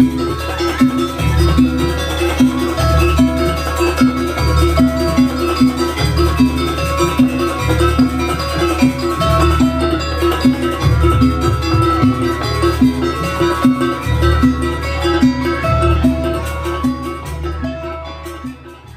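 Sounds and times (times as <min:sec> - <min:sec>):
fast repeating pitched notes: 0:00.0 - 0:18.9
steady drum beat: 0:00.0 - 0:18.9.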